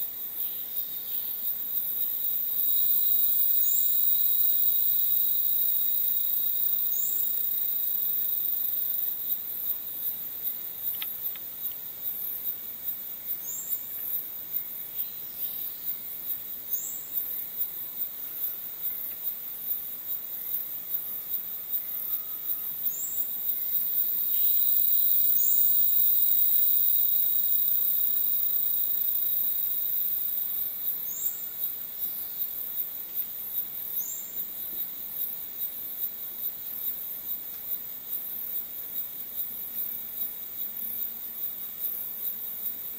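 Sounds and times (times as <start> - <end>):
insect buzz: 0.0 - 42.9
steady insect whine: 0.0 - 42.9.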